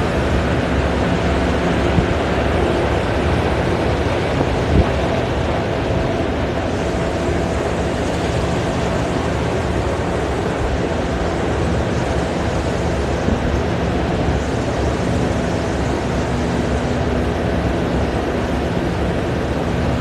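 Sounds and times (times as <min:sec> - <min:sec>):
heavy machinery drone: 0:00.0 - 0:20.0.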